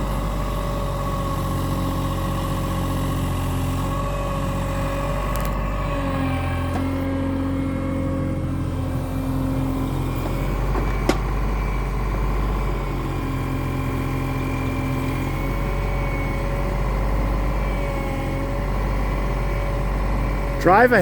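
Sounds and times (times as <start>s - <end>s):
mini excavator diesel engine: 0.0s - 21.0s.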